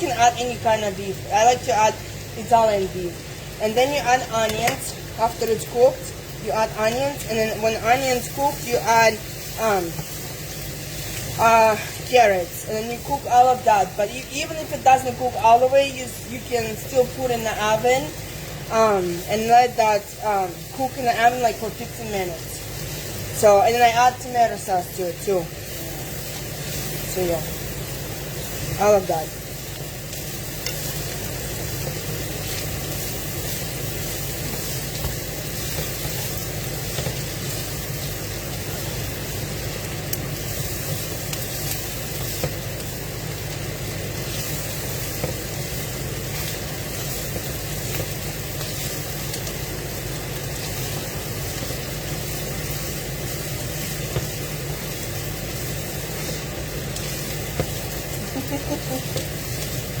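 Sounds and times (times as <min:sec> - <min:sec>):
meat and vegetables sizzling in a pan: 0:00.0 - 1:00.0.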